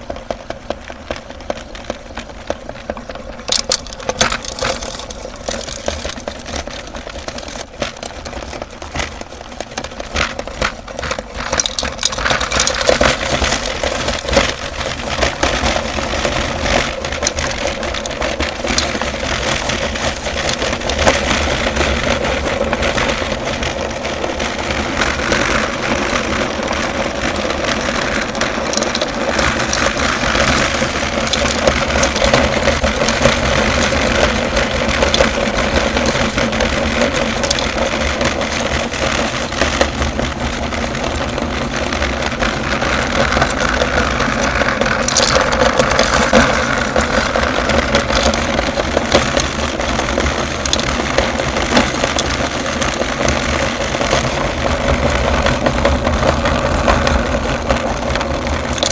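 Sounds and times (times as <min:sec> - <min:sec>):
candy crackling being crushed: 0:00.7 - 0:58.9.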